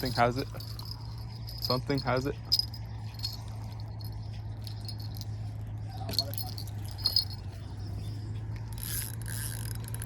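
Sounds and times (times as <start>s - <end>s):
small bell jingling: 0.0s - 10.0s
steady low hum: 0.0s - 10.0s.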